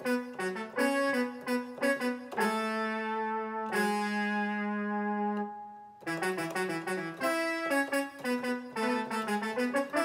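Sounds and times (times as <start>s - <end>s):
synthesizer brass-like notes and chords: 0.0s - 10.0s.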